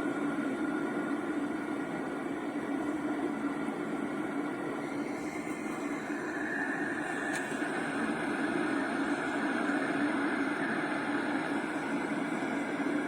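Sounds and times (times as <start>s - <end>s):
white noise with low hum: 0.0s - 13.0s.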